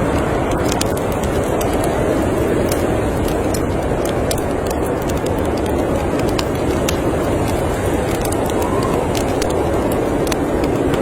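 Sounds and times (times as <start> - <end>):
storm wind blowing: 0.0 - 11.0
wood fire crackling and popping: 0.0 - 11.0.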